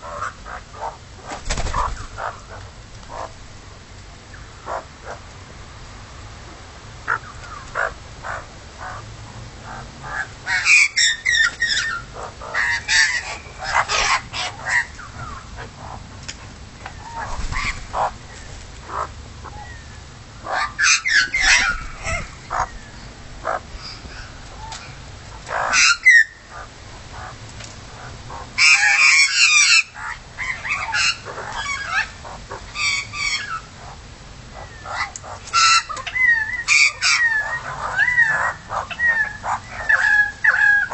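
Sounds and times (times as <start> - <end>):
magpies calling: 0.0 - 3.4, 4.3 - 5.2, 7.0 - 16.1, 16.9 - 40.9.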